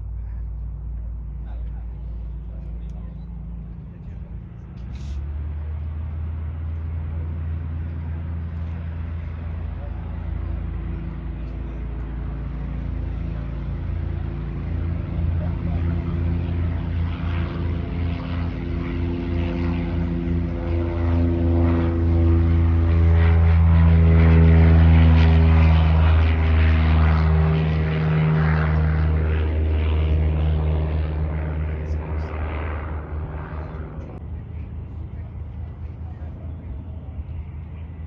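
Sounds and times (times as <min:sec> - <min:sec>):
propeller airplane engine: 0:00.0 - 0:38.0.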